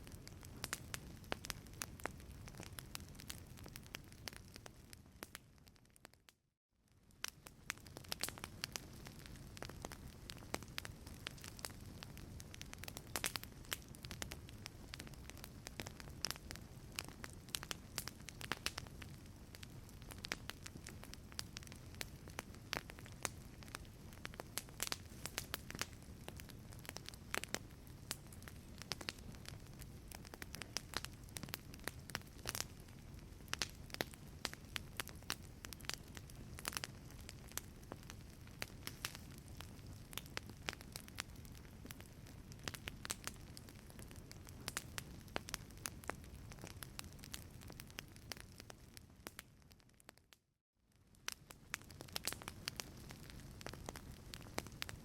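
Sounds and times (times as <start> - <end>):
wood fire crackling: 0.0 - 6.3, 6.9 - 50.1, 50.9 - 55.0.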